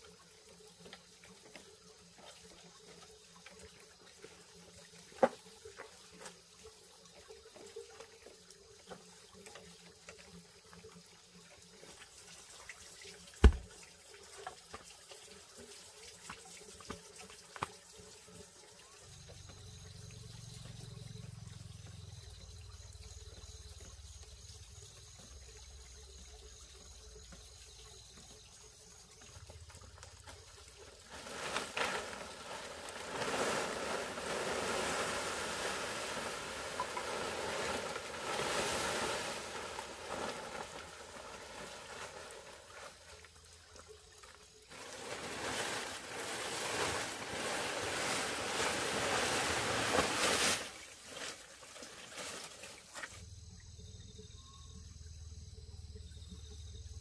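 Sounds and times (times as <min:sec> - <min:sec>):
water trickling and splashing: 0:00.0 - 0:54.2.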